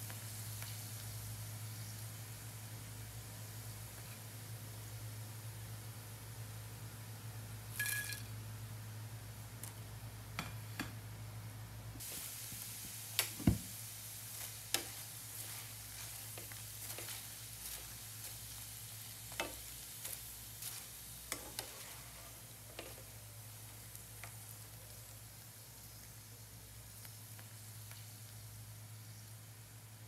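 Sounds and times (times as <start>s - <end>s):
vegetables sizzling in a frying pan: 0.0s - 11.4s, 12.0s - 30.0s.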